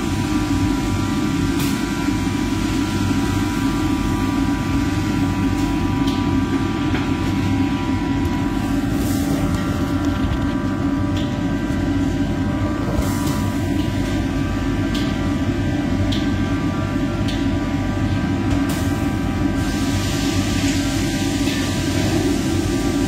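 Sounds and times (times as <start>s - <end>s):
kitchen exhaust hood roar: 0.0s - 23.0s.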